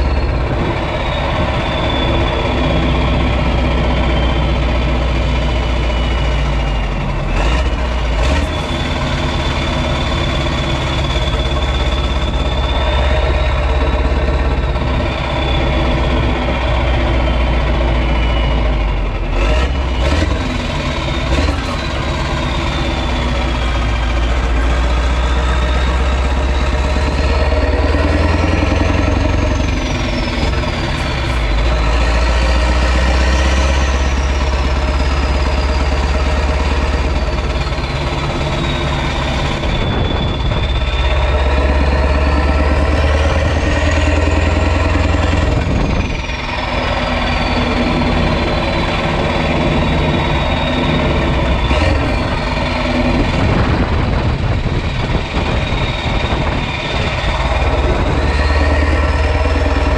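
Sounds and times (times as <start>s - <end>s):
turbo whistle: 0.0s - 6.9s, 8.2s - 18.9s, 19.9s - 54.1s
truck diesel engine rumbling: 0.0s - 59.9s.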